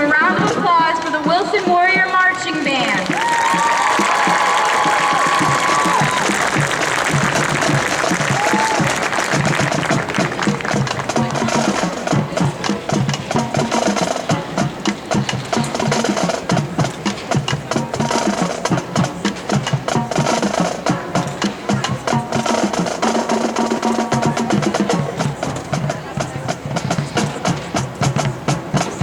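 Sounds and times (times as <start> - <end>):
marching band playing: 0.0 - 29.0
drum and percussion hits: 0.1 - 29.0.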